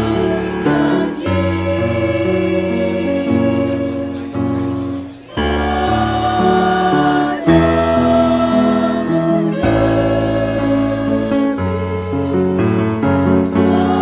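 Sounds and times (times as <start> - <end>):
choir singing with accompaniment: 0.0 - 14.0.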